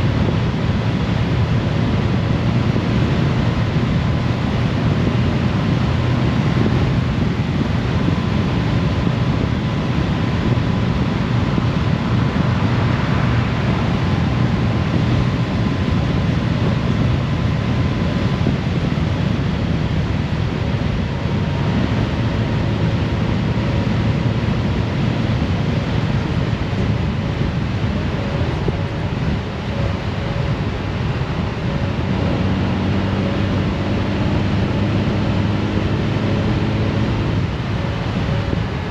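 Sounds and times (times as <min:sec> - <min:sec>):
road noise: 0:00.0 - 0:38.9
wind rushing over microphone: 0:00.0 - 0:38.9.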